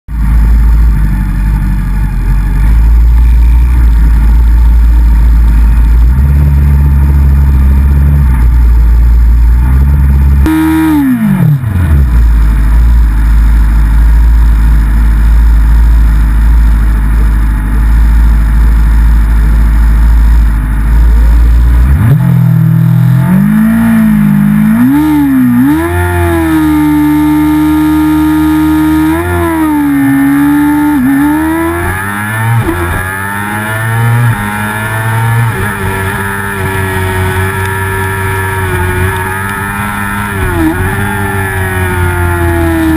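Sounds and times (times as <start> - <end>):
motorcycle engine revving: 0.1 - 42.9.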